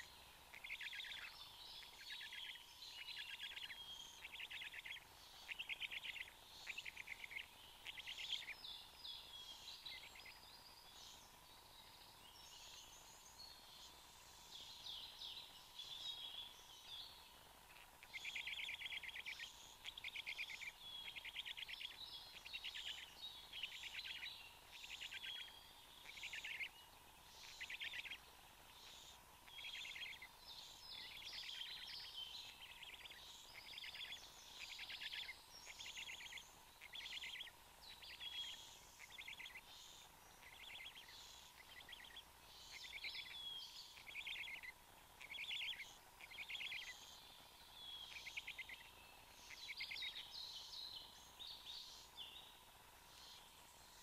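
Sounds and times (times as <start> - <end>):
thin steady hum: 0.0 - 54.0.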